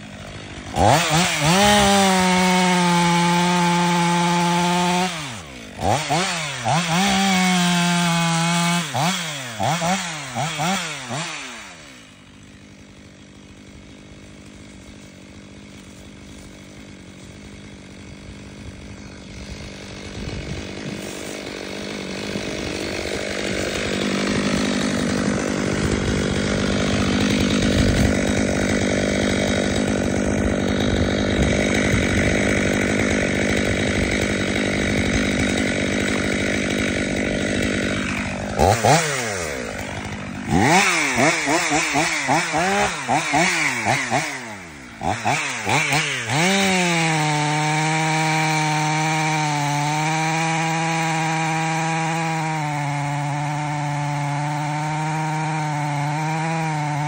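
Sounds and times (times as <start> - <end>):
chainsaw cutting tree: 0.0 - 57.0.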